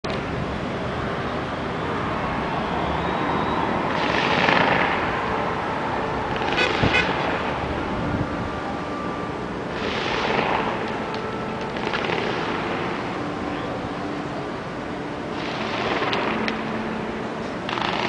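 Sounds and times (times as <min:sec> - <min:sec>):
outdoor traffic noise: 0:00.0 - 0:18.0.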